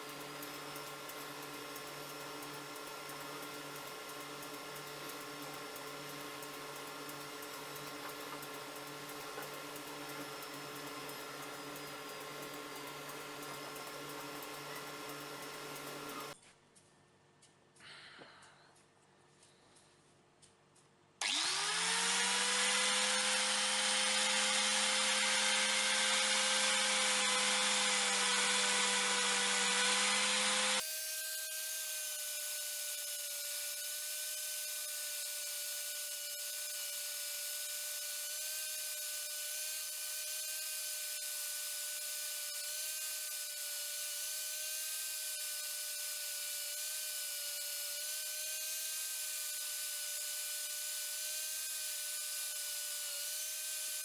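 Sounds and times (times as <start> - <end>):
electric power tool spinning: 0.0 - 16.4, 21.2 - 54.0
high-pitched power tool whine: 0.0 - 16.4, 21.2 - 54.0.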